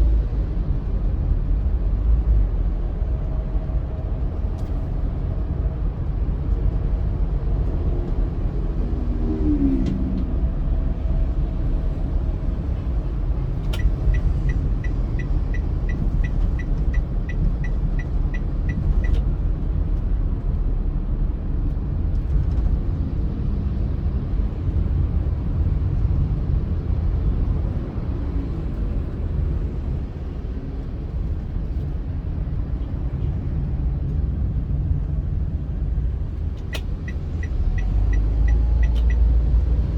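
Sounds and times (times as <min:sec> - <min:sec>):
car driving with low rumble: 0:00.0 - 0:39.9.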